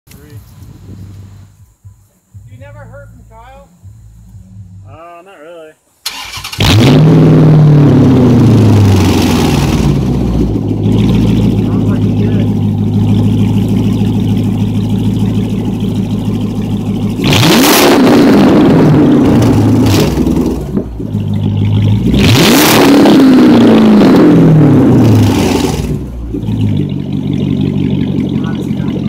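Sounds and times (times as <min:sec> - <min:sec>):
car engine idling and revving: 0:03.1 - 0:04.9, 0:06.1 - 0:29.0.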